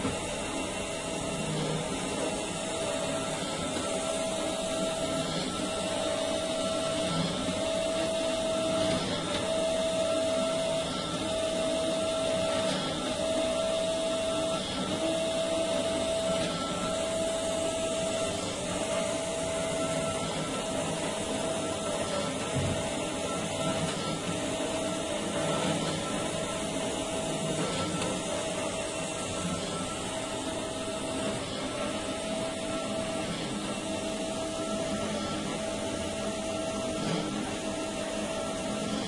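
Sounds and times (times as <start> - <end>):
machine tone: 0.0 - 39.0.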